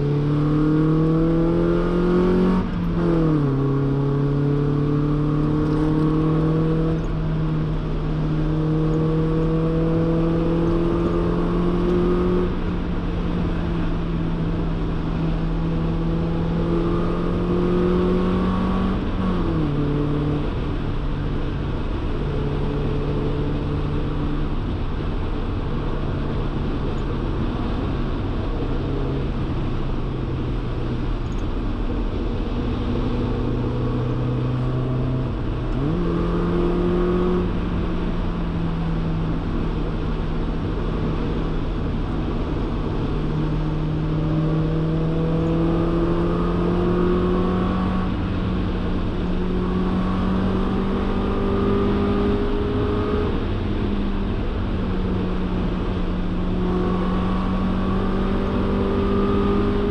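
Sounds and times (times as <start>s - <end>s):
car exhaust drone: 0.0s - 59.9s.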